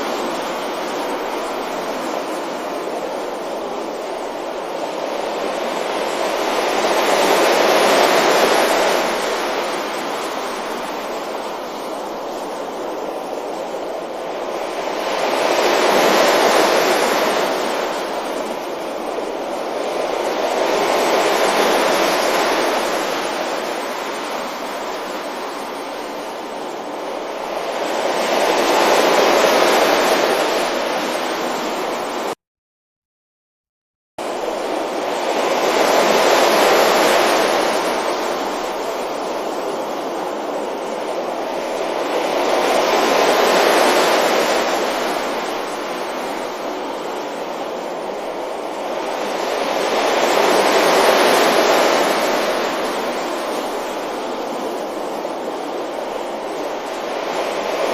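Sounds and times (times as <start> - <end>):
sea waves breaking on beach: 0.0 - 32.4, 34.2 - 57.9.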